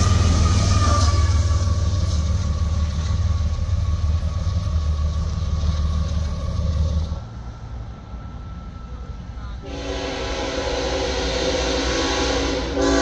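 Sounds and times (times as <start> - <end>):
diesel locomotive engine rumble: 0.0 - 13.0.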